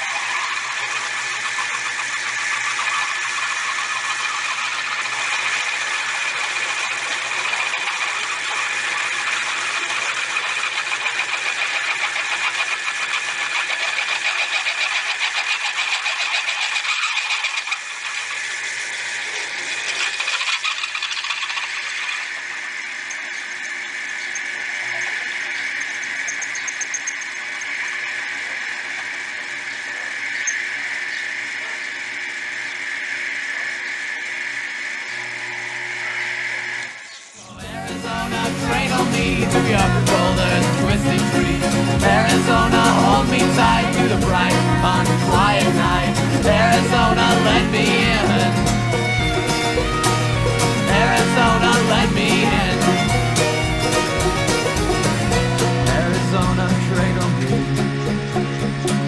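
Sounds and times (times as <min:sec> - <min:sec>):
milling machine motor running: 0:00.0 - 0:59.0.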